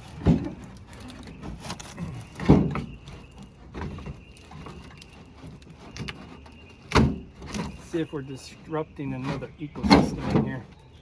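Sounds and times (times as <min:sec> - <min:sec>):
knocks and scrapes of panels pried loose: 0:00.0 - 0:10.8.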